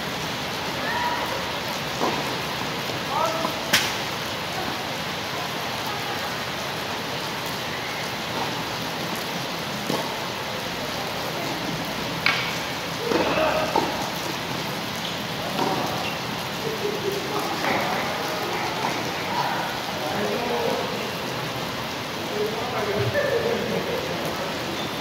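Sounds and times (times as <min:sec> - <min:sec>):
players' voices: 0:00.6 - 0:25.0.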